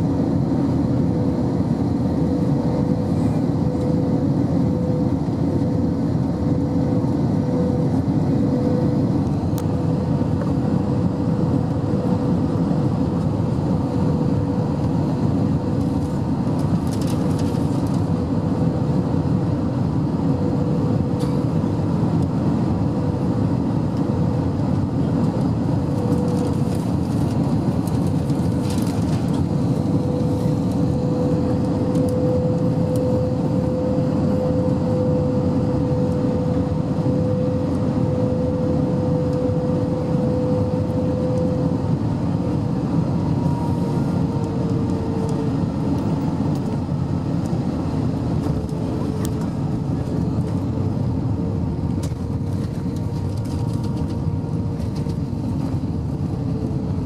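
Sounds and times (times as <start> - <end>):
airplane cabin engine roar: 0.0 - 57.0.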